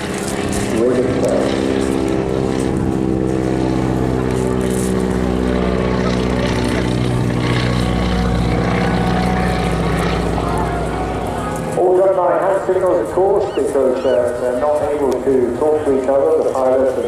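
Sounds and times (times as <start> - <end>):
biplane engine droning: 0.0 - 17.0.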